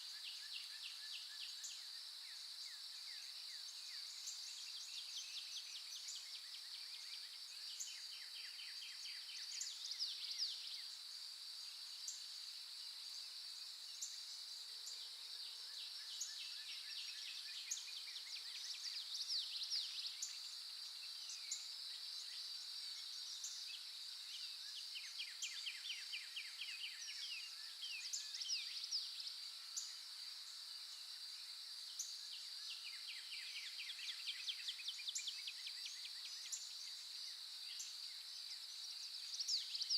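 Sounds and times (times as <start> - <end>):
songbirds singing: 0.0 - 11.2, 13.0 - 30.7, 31.8 - 39.9.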